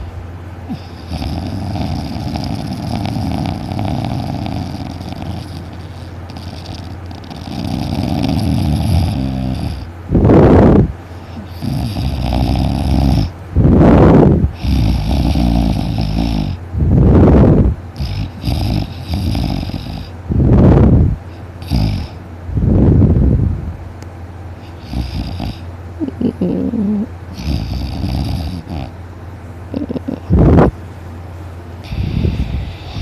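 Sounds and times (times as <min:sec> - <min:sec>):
loud snoring: 0:00.7 - 0:23.1, 0:24.6 - 0:29.0, 0:29.7 - 0:30.7, 0:31.8 - 0:33.0.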